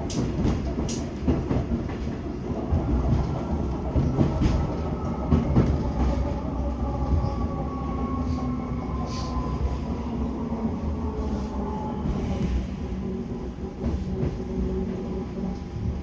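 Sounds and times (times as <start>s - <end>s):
train wheel and rail rumble: 0.0s - 16.0s.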